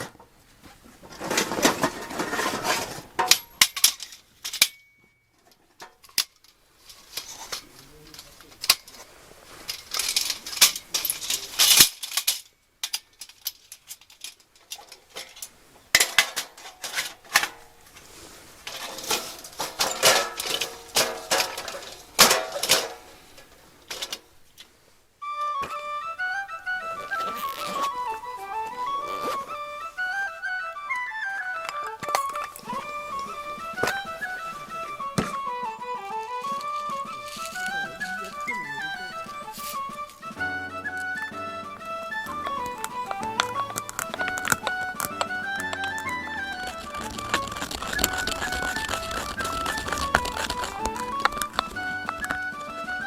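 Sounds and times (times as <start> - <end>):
camp gear clinking and scraping: 0.0 - 53.0.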